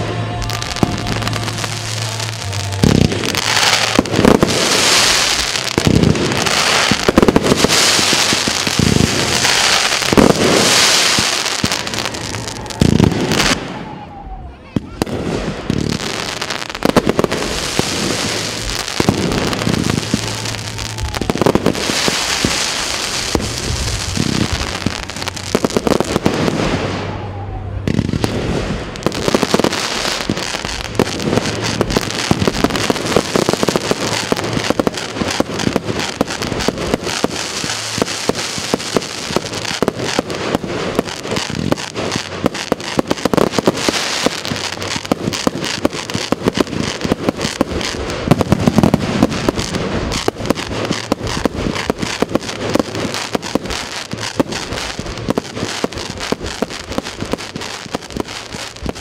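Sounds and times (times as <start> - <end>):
fireworks popping and banging: 0.0 - 27.2, 27.8 - 59.0.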